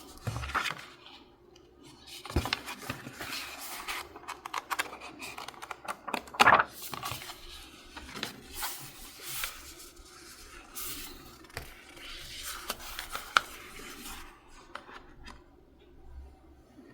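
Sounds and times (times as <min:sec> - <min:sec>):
paper rustling and crinkling: 0:00.0 - 0:15.4.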